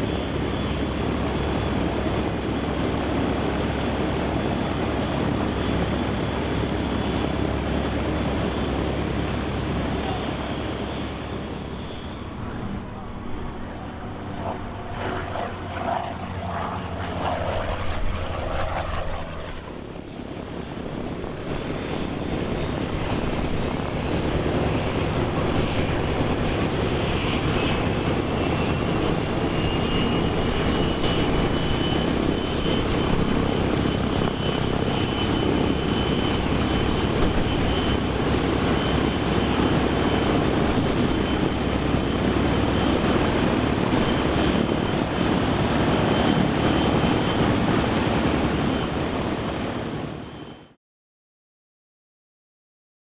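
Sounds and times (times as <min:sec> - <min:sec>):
faint high whine: 0:00.0 - 0:15.9, 0:21.8 - 0:50.8
radial engine running: 0:00.0 - 0:50.8.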